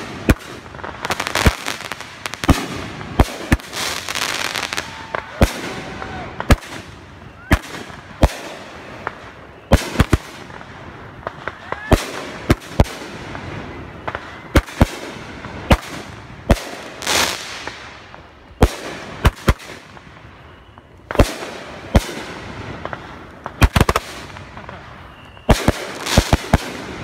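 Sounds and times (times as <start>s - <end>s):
fireworks bangs: 0.0s - 27.0s
fireworks crackle: 0.0s - 27.0s.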